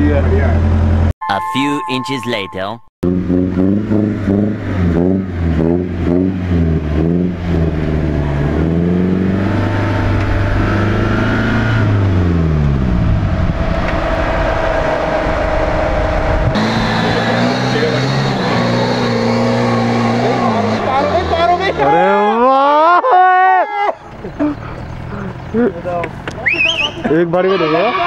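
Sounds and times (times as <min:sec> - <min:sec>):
off-road engine revving: 0:03.0 - 0:23.0, 0:24.0 - 0:28.0.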